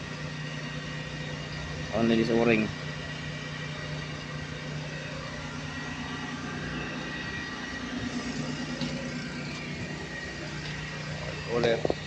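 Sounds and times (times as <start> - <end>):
high machinery whine: 0.0 - 12.0
machinery humming: 0.0 - 12.0.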